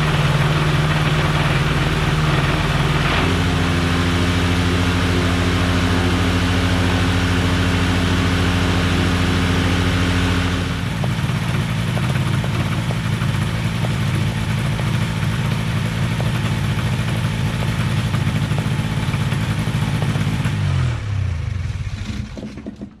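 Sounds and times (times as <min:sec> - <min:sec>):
propeller engine running: 0:00.0 - 0:22.9.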